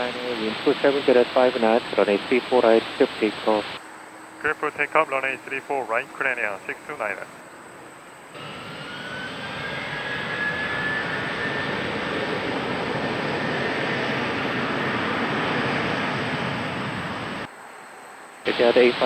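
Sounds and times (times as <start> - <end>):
jet engine rumble: 0.0 - 3.8, 4.4 - 7.4, 8.4 - 17.5, 18.5 - 19.0
faint rising jet whine: 0.0 - 17.5.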